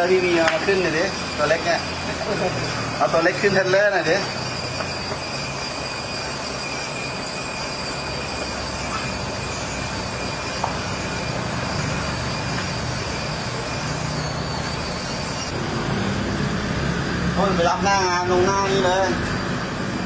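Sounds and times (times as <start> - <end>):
electric drive whine: 0.0 - 20.0
mechanical hum: 0.0 - 20.0.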